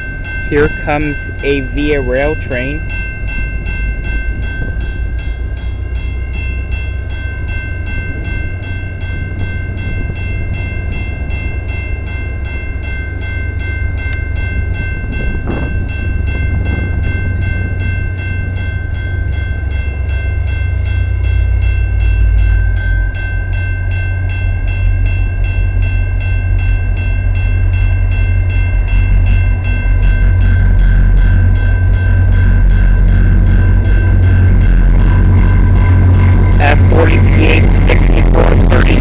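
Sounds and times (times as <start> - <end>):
level-crossing warning bell: 0.0 - 39.0
low train rumble: 0.0 - 39.0.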